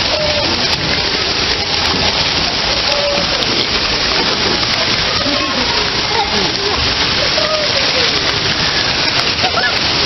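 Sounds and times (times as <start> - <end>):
water jets splashing into pool: 0.0 - 10.0.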